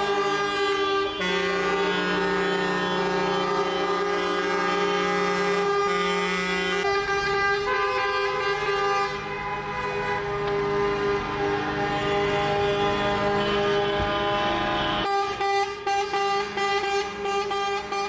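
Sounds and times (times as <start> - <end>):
truck horns blasting: 0.0 - 18.0.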